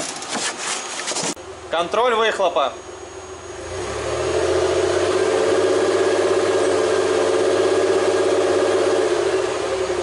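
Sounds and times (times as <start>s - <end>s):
car exhaust running: 1.4s - 10.0s.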